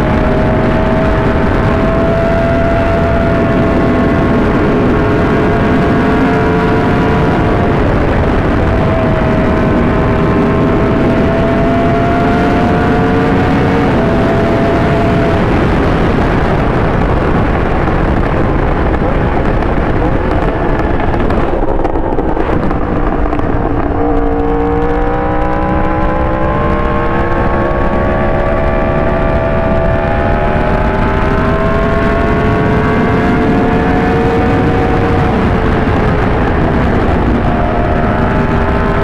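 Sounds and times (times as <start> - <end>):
motorcycle engine accelerating: 0.0 - 39.0
wind rushing: 0.0 - 39.0.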